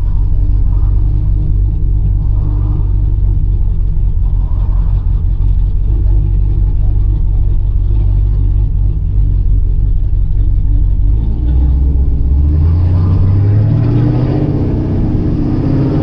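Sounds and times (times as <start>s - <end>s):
car engine rumbling: 0.0s - 16.0s
road noise: 0.0s - 16.0s.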